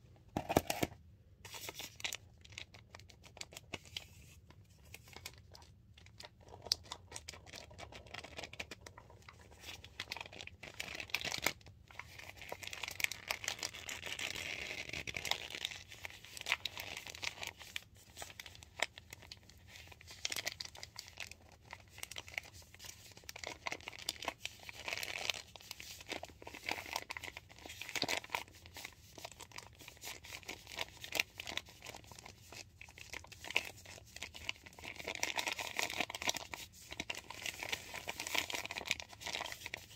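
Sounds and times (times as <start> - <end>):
plastic bag crinkling and rustling: 0.3 - 39.9.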